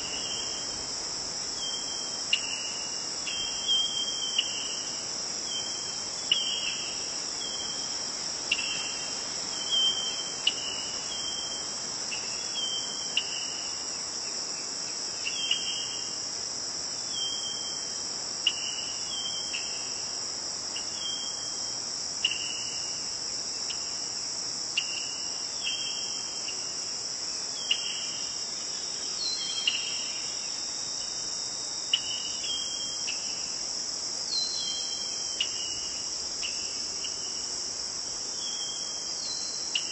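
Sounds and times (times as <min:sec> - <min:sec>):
crickets chirping chorus: 0:00.0 - 0:39.9.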